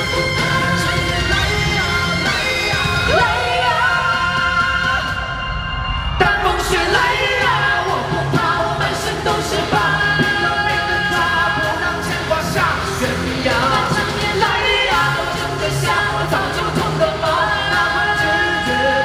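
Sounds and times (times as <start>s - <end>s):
live pop-rock band with vocals: 0.0s - 19.0s.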